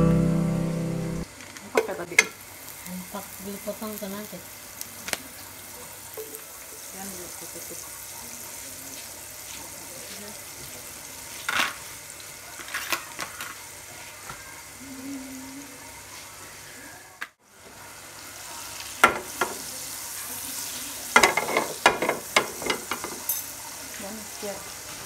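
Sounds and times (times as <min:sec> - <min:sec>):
butter sizzling in frying pan: 0:00.1 - 0:14.9, 0:15.7 - 0:25.0.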